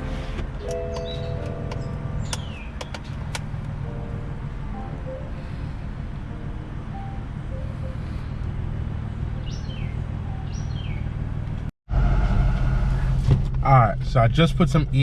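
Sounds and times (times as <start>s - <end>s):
car driving rumble: 0.0s - 15.0s
low-toned hum: 0.0s - 15.0s.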